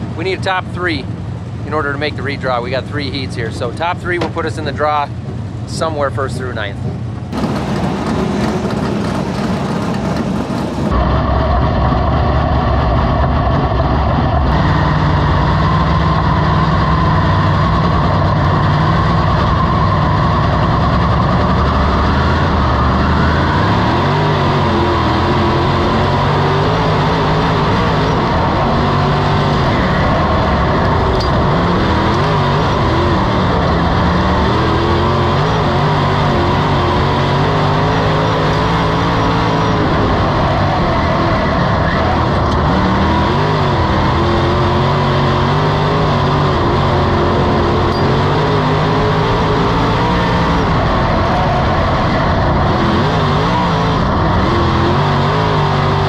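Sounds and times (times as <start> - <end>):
quiet vehicle noise: 0.0 - 56.0
race car engine revving: 0.0 - 56.0.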